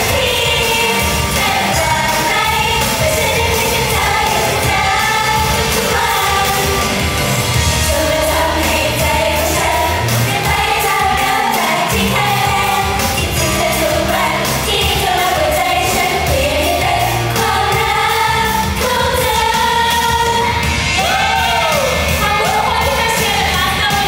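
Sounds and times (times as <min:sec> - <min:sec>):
pop backing music: 0:00.0 - 0:24.0
women singing together: 0:00.0 - 0:24.0.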